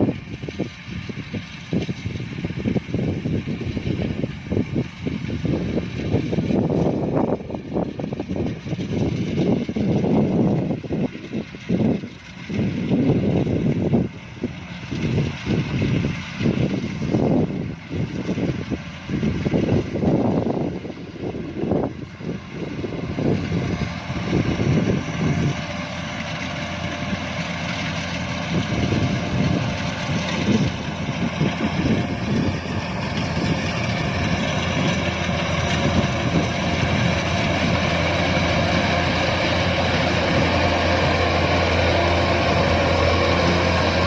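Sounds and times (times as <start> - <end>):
combine harvester running: 0.0 - 44.0.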